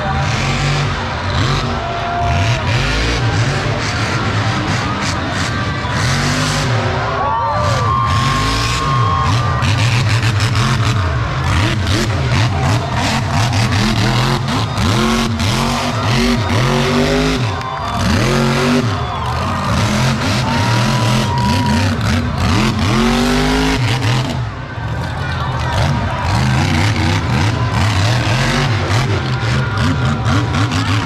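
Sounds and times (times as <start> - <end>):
truck engines revving: 0.0 - 31.0.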